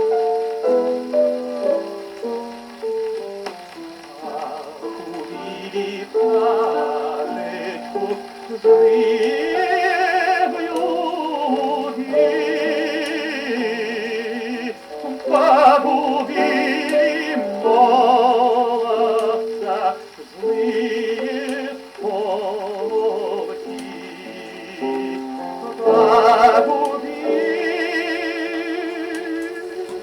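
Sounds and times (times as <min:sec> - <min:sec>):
old recording of a song: 0:00.0 - 0:30.0
faint record clicks: 0:02.0 - 0:30.0.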